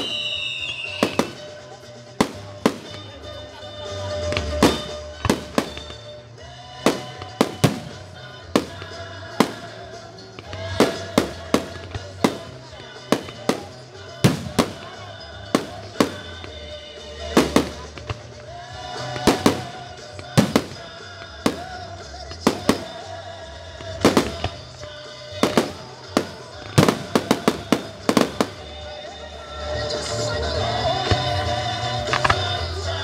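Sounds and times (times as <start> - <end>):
fireworks bangs: 0.0 - 3.3, 4.1 - 6.2, 6.8 - 29.2
music: 0.0 - 33.0.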